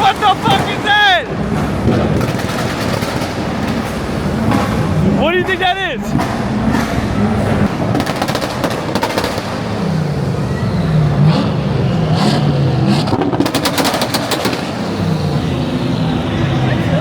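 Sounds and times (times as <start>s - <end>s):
car engine revving: 0.0s - 17.0s
popping exhaust crackles: 0.0s - 17.0s.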